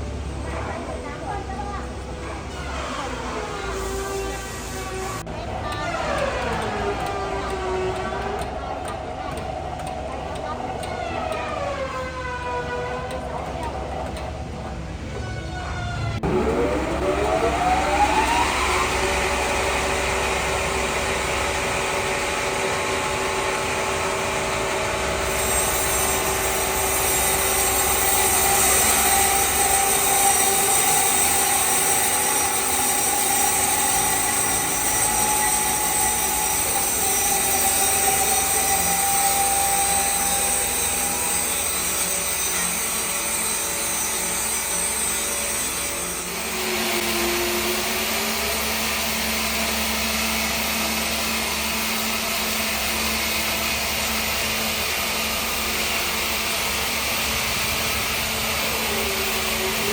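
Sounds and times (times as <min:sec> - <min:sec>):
woodworking machine motor whine: 0:00.0 - 0:59.9
machine cutting wood hiss: 0:00.1 - 0:14.4, 0:16.2 - 0:59.9.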